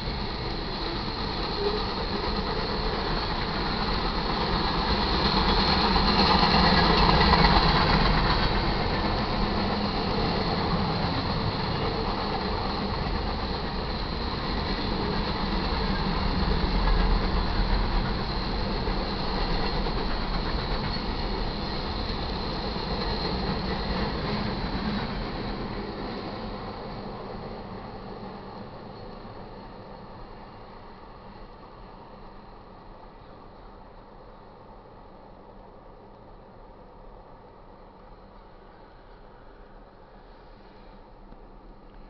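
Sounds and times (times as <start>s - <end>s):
steel wheels rumbling on rail: 0.0s - 36.1s.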